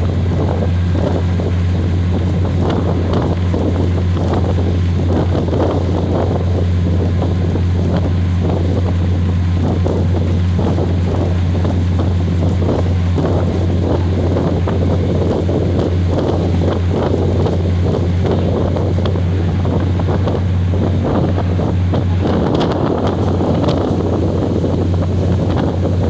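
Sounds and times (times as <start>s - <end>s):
train running: 0.0s - 26.0s
wind noise on microphone: 0.0s - 26.0s.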